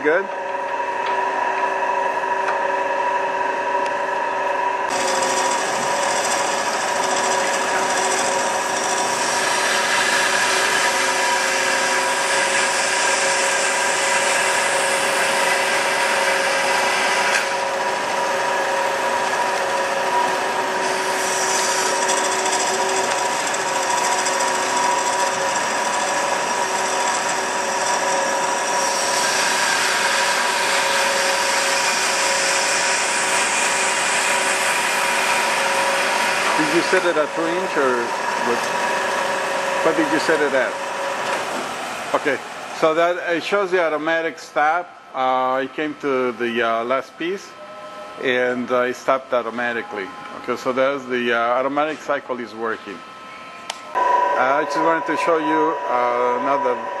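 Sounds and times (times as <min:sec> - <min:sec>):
band saw machine hum: 0:00.0 - 0:44.1, 0:49.5 - 0:57.0.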